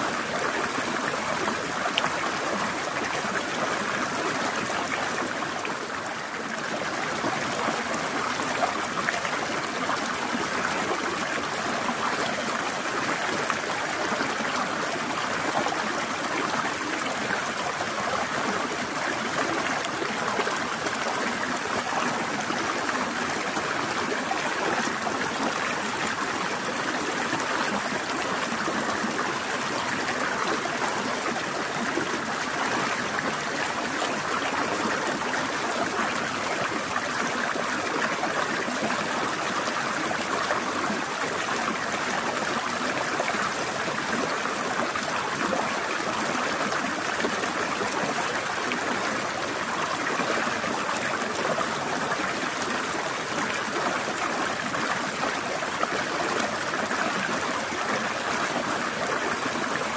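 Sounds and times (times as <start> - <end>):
stream trickling: 0.0 - 59.9.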